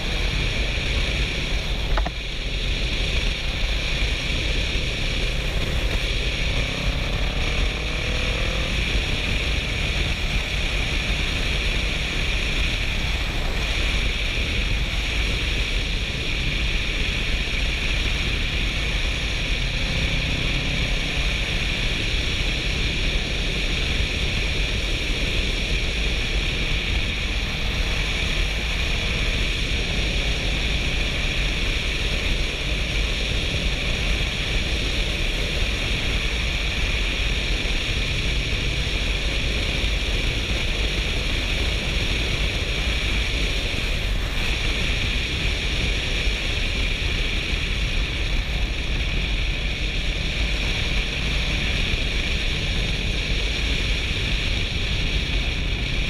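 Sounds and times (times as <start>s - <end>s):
wind rush on helmet: 0.0s - 56.0s.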